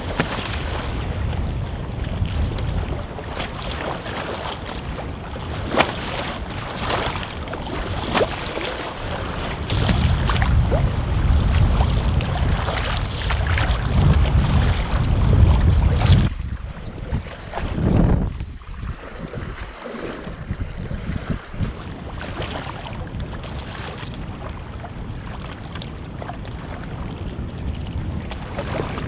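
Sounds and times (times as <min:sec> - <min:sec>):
paddle splash: 0:00.0 - 0:29.0
waves slapping against canoe hull: 0:00.0 - 0:29.0
wind noise on microphone: 0:00.0 - 0:29.0.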